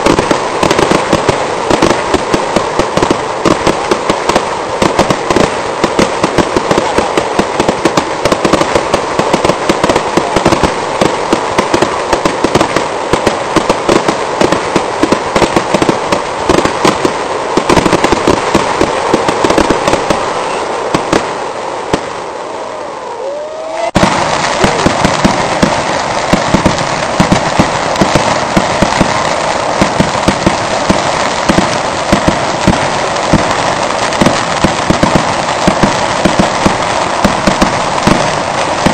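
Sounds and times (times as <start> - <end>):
firework whistling glide: 0.0 - 38.9
fireworks bangs and crackling: 0.0 - 38.9.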